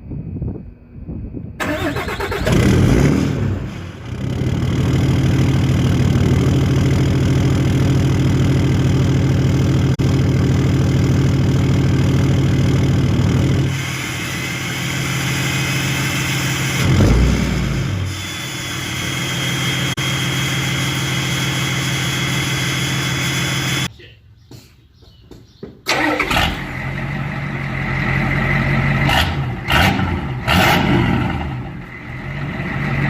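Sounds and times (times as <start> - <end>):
diesel engine cranking and idling: 1.6 - 23.9, 25.8 - 33.0.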